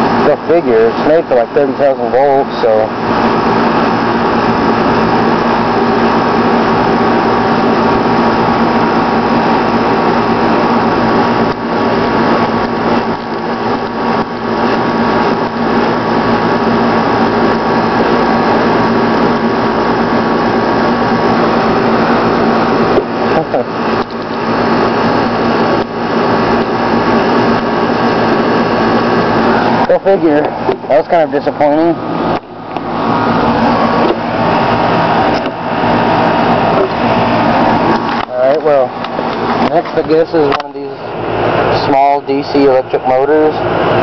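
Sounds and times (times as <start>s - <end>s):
loud electrical buzz: 0.0s - 44.0s.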